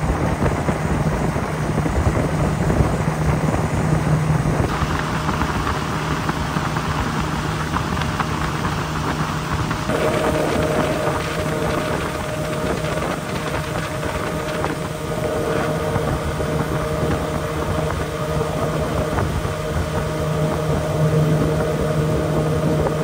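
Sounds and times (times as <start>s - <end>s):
motorboat engine running: 0.0s - 23.0s
wind and water rushing: 0.0s - 23.0s.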